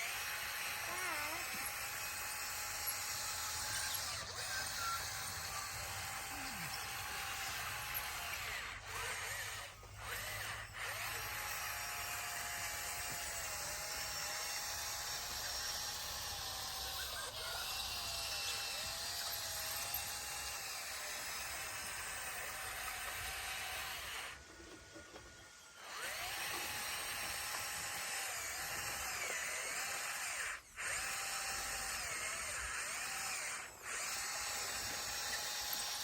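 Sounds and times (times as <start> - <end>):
bulldozer working: 0.0 - 36.0.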